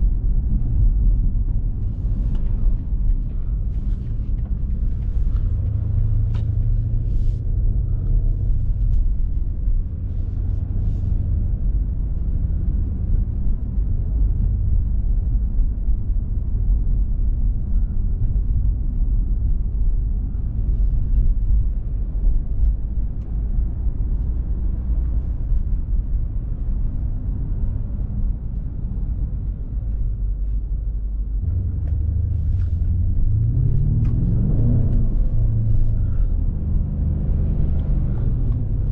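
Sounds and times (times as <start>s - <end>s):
car engine rumbling and revving: 0.0s - 38.9s.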